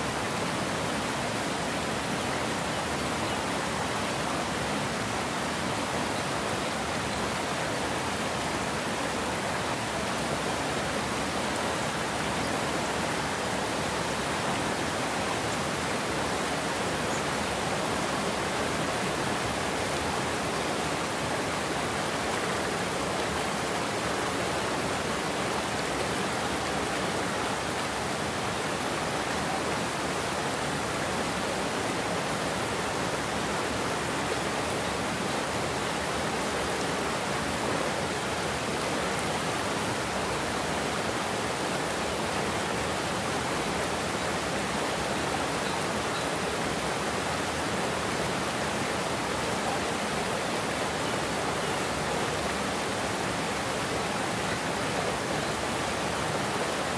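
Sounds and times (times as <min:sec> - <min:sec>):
water rushing over weir: 0:00.0 - 0:56.9.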